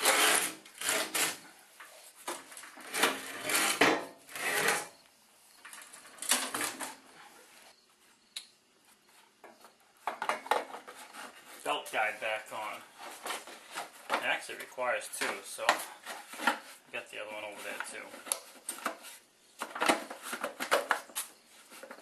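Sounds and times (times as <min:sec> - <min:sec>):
wood and metal knocks and scrapes: 0:00.0 - 0:05.0, 0:05.6 - 0:07.4, 0:09.1 - 0:11.7, 0:12.5 - 0:16.8, 0:17.6 - 0:22.0.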